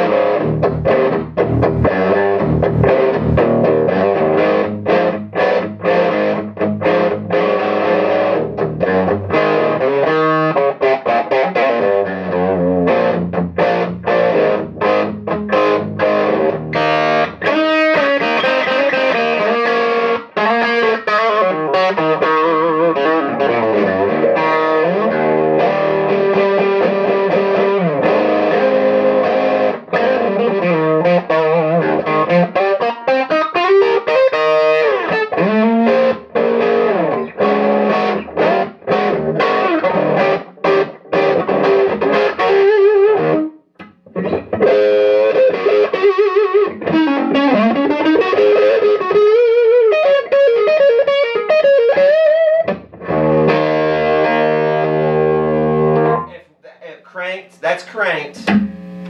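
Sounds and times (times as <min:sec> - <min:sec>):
overdriven electric guitar: 0:00.0 - 0:56.4, 0:58.3 - 0:59.0.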